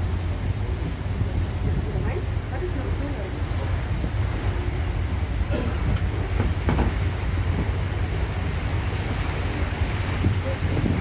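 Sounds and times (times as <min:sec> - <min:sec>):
boat engine drone: 0:00.0 - 0:11.0
wind buffeting microphone: 0:00.0 - 0:11.0.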